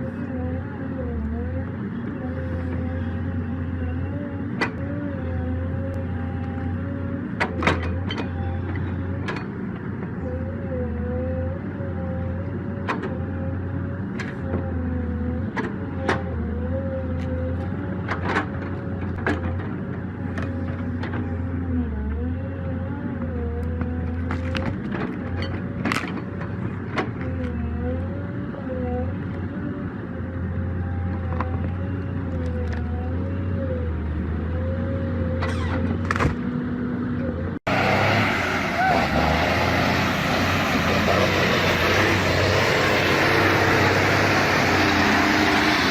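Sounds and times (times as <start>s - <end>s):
heavy machine engine hum: 0.0s - 45.9s.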